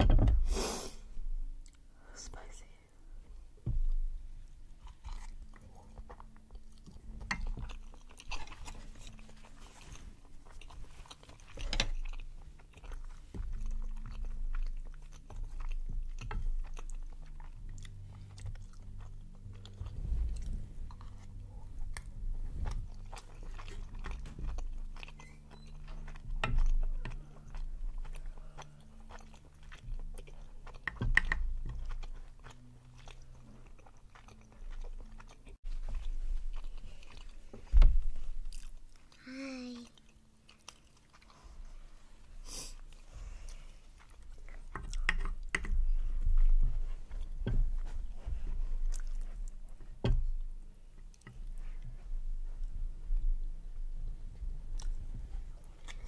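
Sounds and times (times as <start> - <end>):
chewing with mouth clicks: 3.8 - 56.0.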